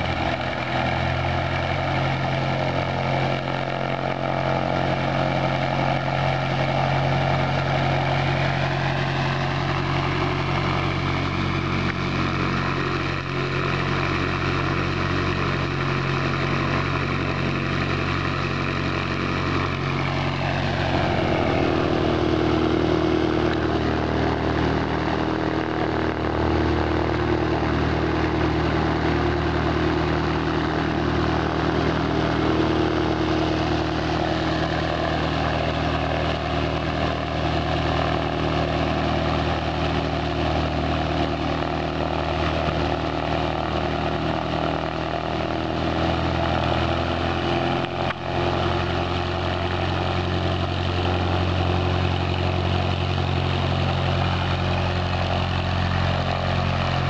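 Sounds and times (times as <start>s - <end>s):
light plane engine and propeller: 0.0s - 57.0s.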